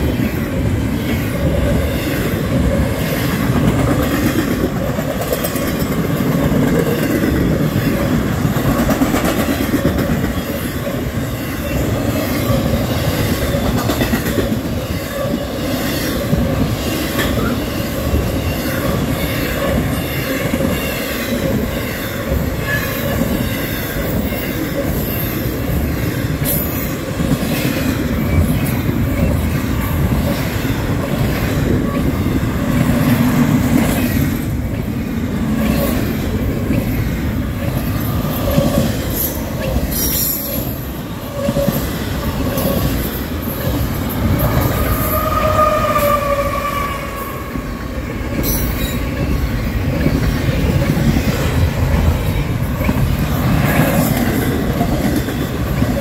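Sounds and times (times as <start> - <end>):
train wheels squealing: 0.0 - 8.8, 9.6 - 34.5, 35.5 - 56.0
freight train wheels rumbling: 0.0 - 56.0
locomotive passing: 0.0 - 56.0.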